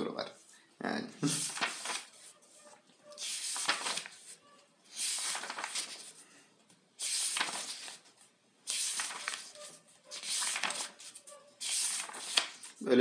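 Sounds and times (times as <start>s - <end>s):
paper pages turning: 1.2s - 6.2s, 7.0s - 12.8s.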